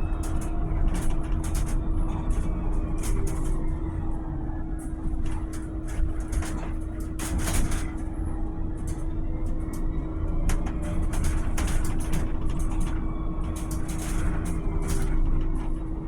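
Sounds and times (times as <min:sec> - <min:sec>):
short rattles and knocks: 0:00.0 - 0:03.8, 0:04.8 - 0:16.0
electric bus rumble and whine: 0:00.0 - 0:16.0.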